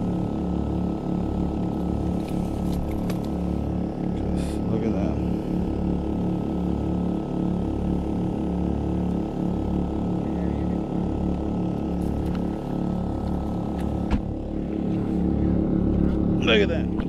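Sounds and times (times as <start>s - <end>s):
generator engine hum: 0.0s - 17.0s.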